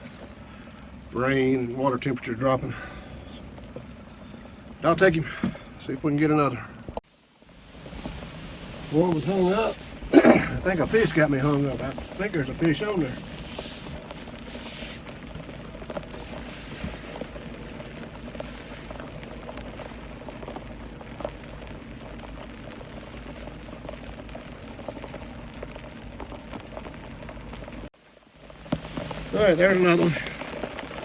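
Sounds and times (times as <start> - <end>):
low steady rumble: 0.0 - 31.0
steady rain patter: 0.0 - 31.0.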